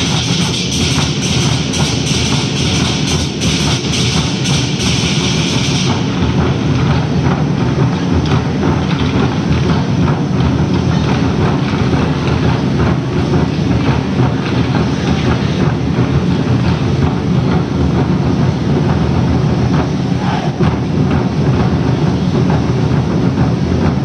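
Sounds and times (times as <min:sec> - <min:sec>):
low rumble of drumming: 0:00.0 - 0:24.0.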